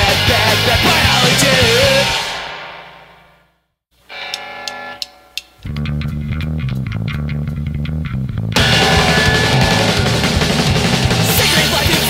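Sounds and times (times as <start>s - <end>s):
instrumental punk rock: 0.0s - 2.8s, 4.1s - 12.0s.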